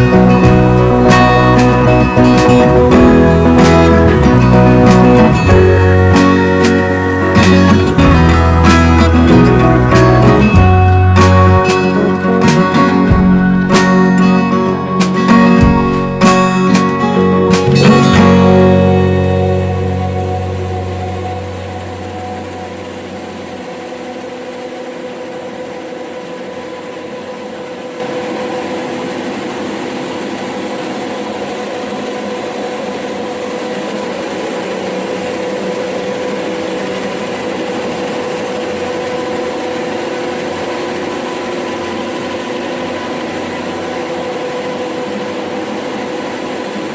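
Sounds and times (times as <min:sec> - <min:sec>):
machine drone with held tones: 0:00.0 - 0:46.9.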